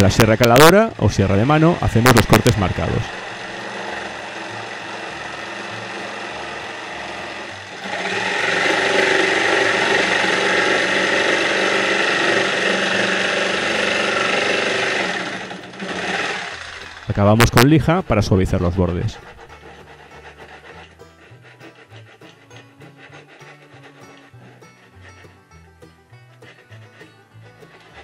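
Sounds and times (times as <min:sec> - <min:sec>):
jigsaw cutting wood: 0:00.0 - 0:17.8, 0:18.7 - 0:25.4, 0:26.4 - 0:28.0.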